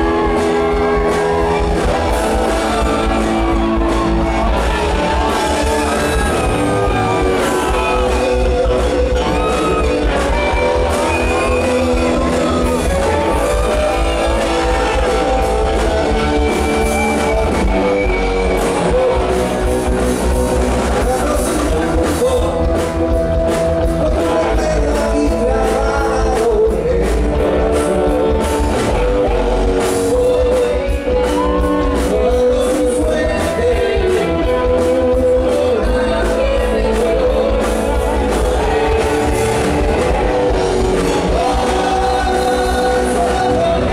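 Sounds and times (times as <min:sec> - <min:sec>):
live rock band playing: 0:00.0 - 0:43.9
man singing into microphone: 0:02.2 - 0:19.9, 0:20.7 - 0:28.4, 0:29.0 - 0:43.9.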